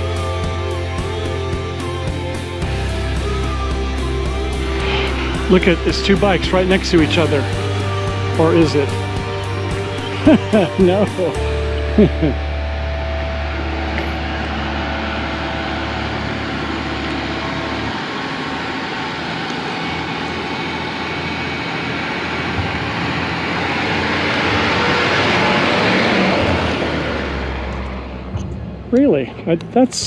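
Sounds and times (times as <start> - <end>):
diesel bus passing by: 0.0 - 30.0.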